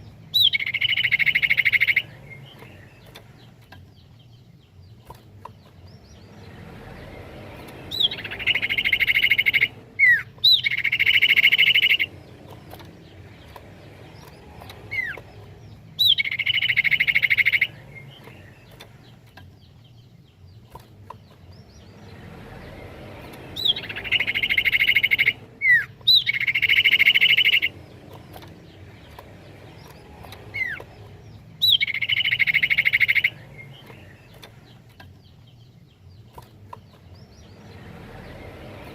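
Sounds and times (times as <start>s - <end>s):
bird song whistles and trills: 0.0s - 38.9s.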